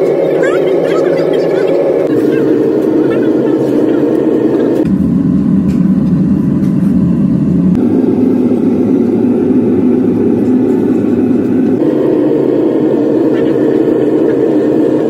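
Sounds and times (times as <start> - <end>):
loud engine running: 0.0 - 15.0.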